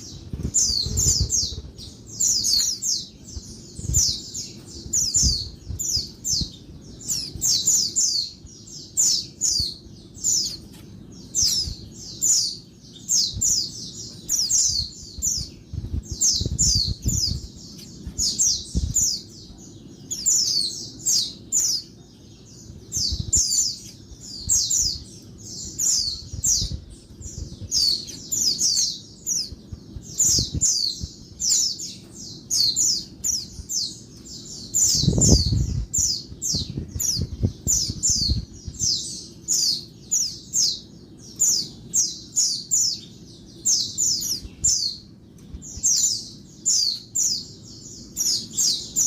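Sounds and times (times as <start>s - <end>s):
bird chirping: 0.0s - 49.0s.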